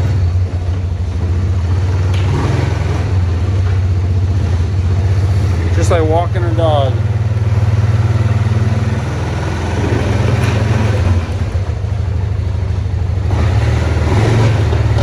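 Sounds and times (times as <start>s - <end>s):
four-wheeler engine running: 0.0s - 15.0s.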